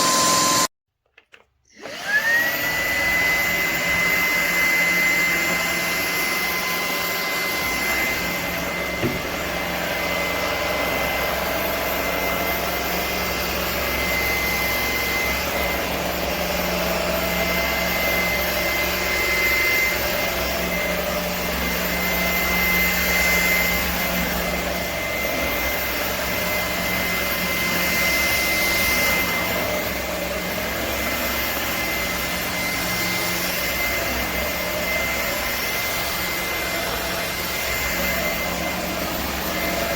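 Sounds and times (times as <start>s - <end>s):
stick vacuum motor whine: 0.0s - 0.7s, 1.3s - 39.9s.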